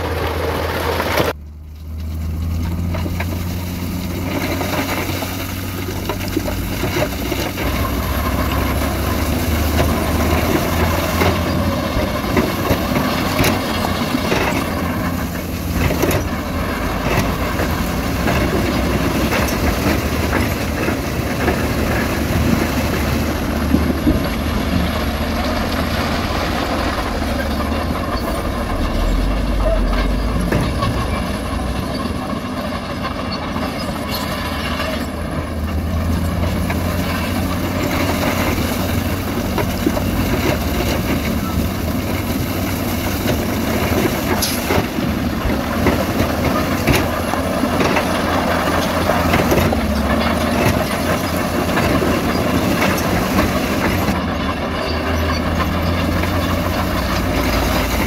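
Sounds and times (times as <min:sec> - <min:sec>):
heavy diesel machinery running: 0:00.0 - 0:58.0
knocks and clatter: 0:00.3 - 0:58.0.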